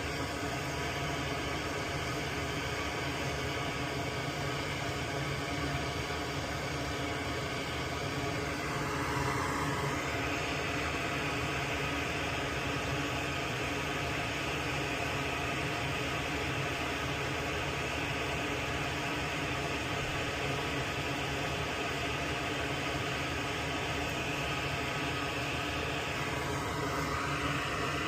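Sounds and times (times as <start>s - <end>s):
fan whirring: 0.0s - 28.0s
hum and hiss: 0.0s - 28.0s.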